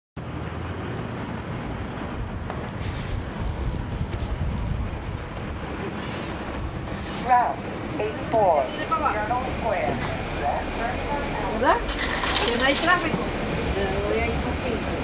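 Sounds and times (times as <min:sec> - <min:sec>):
bus diesel engine running: 0:00.2 - 0:15.0.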